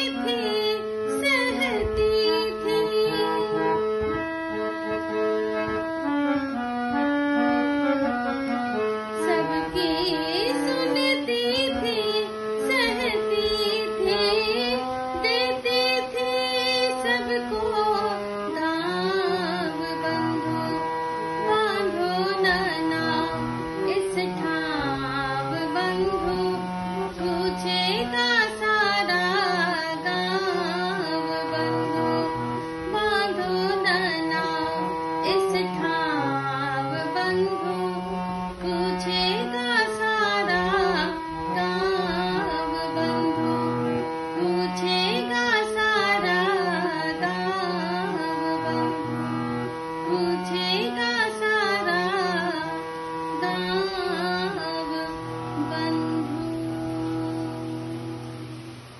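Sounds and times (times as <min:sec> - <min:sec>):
woman singing: 0:00.0 - 0:04.2, 0:07.4 - 0:58.8
harmonium chords: 0:00.0 - 0:58.9.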